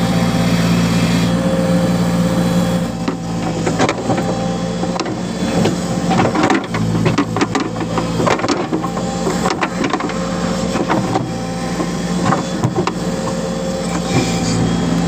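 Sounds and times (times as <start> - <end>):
diesel engine running: 0.0 - 15.0
bucket scraping through soil: 2.8 - 15.0.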